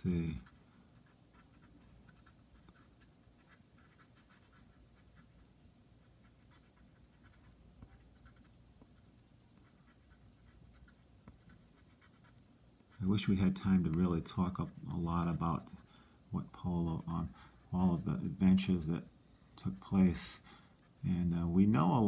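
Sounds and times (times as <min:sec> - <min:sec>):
pencil scratching on paper: 0:00.0 - 0:05.5, 0:06.2 - 0:18.4.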